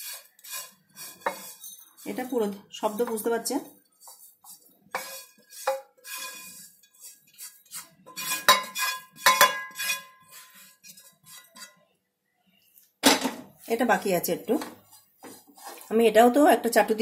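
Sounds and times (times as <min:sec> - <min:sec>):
spatula scraping on pan: 0:00.0 - 0:11.8, 0:13.6 - 0:16.7.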